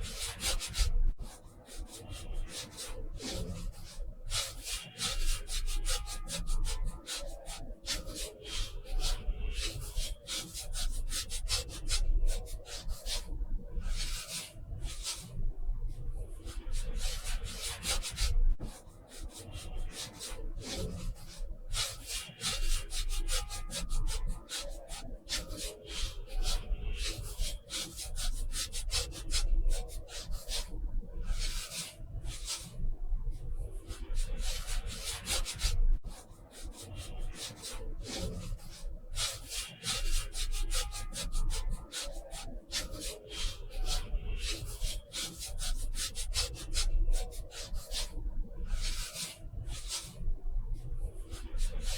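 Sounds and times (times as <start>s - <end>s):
brush rubbing on paper: 0.0s - 13.3s, 16.1s - 51.9s.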